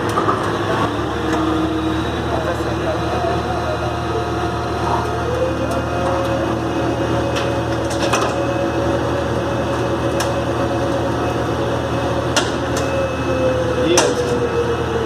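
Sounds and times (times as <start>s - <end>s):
heavy truck engine whining: 0.0s - 15.0s.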